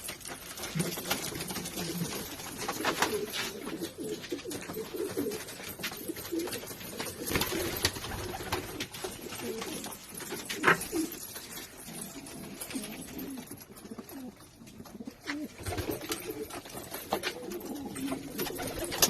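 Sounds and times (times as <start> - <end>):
pigeons cooing: 0.7 - 19.0.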